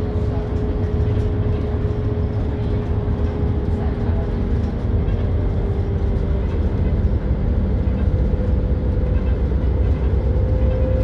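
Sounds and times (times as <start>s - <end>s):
bus engine drone from inside: 0.0s - 11.0s.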